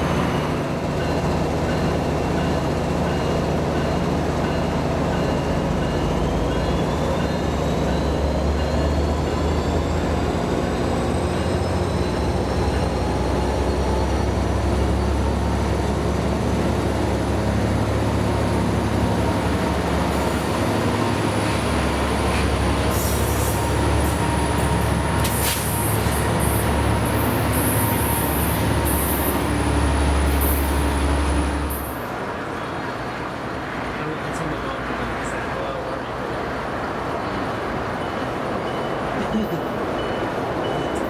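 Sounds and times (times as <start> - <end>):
diesel train engine rumble: 0.0 - 41.0.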